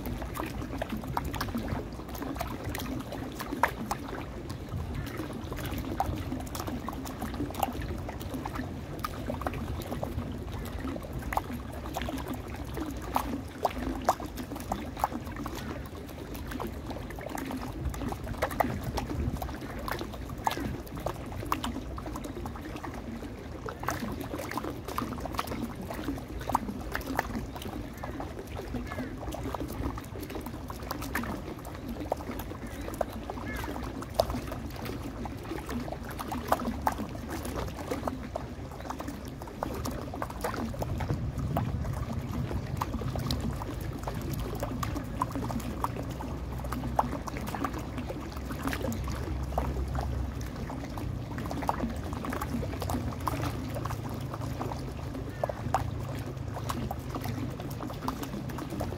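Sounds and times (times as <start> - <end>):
small water splashes and drips: 0.0 - 58.9
water pouring down fountain: 0.0 - 58.9.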